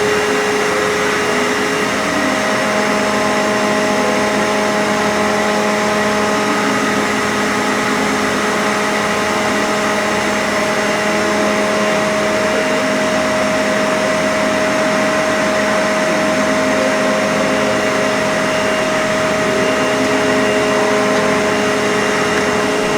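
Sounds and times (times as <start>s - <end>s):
machine motor humming and whining: 0.0s - 22.9s.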